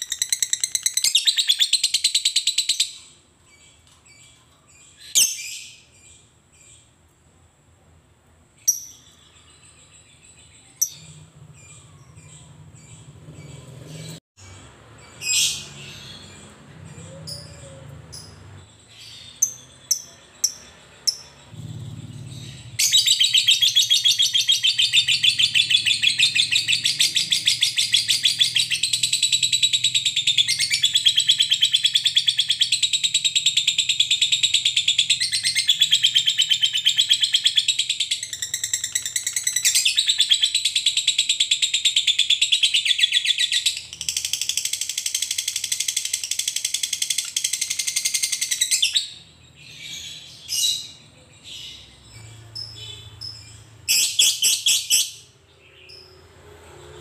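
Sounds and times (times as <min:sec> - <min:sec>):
bird chirps: 0:00.0 - 0:07.0, 0:08.6 - 0:56.3.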